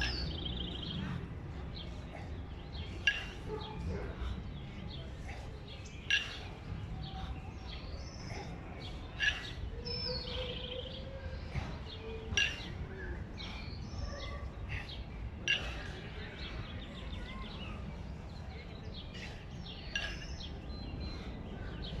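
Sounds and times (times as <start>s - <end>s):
kettlebells clanking: 0.0s - 16.7s, 17.5s - 22.0s
steady background noise: 0.0s - 22.0s.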